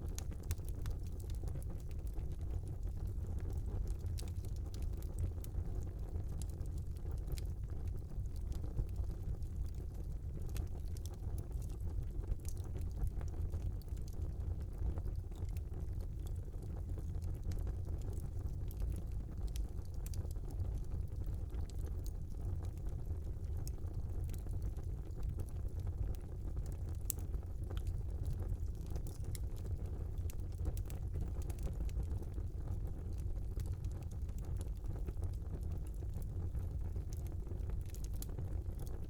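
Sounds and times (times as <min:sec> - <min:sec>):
fire crackling and popping: 0:00.0 - 0:39.0
fire flames rumbling: 0:00.0 - 0:39.0.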